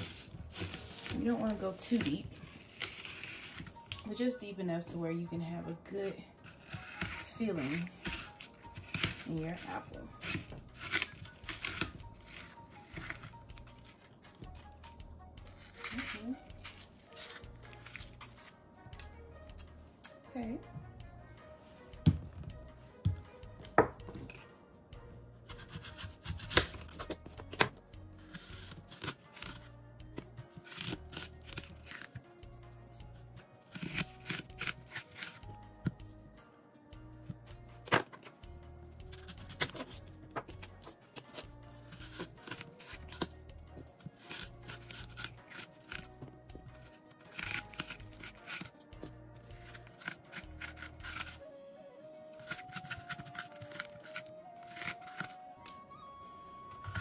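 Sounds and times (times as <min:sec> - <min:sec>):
melon baller scraping apple: 0:00.0 - 0:18.6, 0:25.4 - 0:36.0, 0:37.4 - 0:51.5, 0:52.3 - 0:55.8, 0:56.6 - 0:57.0
knife cutting apple: 0:00.0 - 0:20.2, 0:22.0 - 0:24.5, 0:25.4 - 0:36.1, 0:37.2 - 0:51.5, 0:52.2 - 0:55.8, 0:56.6 - 0:57.0
soft background music: 0:00.0 - 0:57.0.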